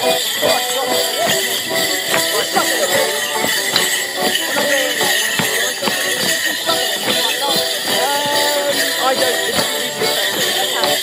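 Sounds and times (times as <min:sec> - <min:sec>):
boots stamping on wooden floor: 0:00.0 - 0:11.0
folk band playing dance tune: 0:00.0 - 0:11.0
leg bells jingling: 0:00.0 - 0:11.0.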